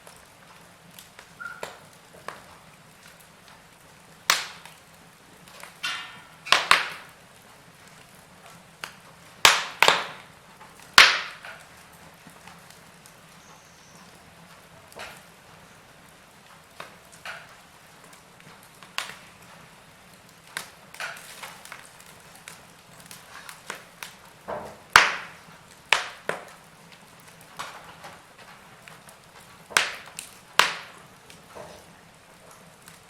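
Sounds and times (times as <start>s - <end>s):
sharp pops from fire: 0.0s - 33.0s
wood fire crackling: 0.0s - 33.0s.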